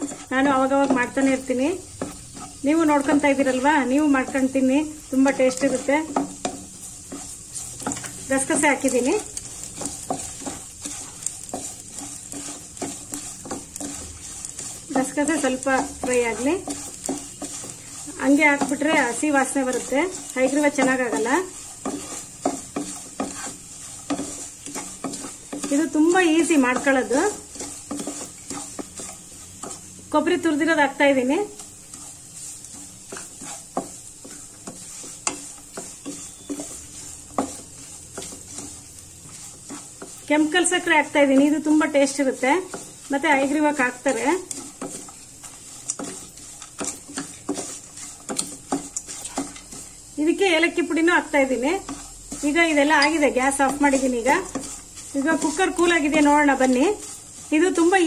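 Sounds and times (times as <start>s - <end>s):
frying sizzle: 0.0s - 58.0s
wooden spatula scraping pan: 0.0s - 58.0s.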